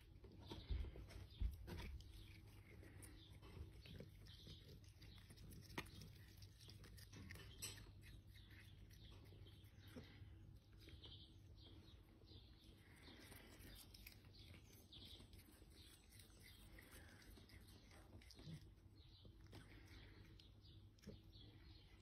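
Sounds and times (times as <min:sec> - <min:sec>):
cats chewing grass: 0:00.0 - 0:22.0.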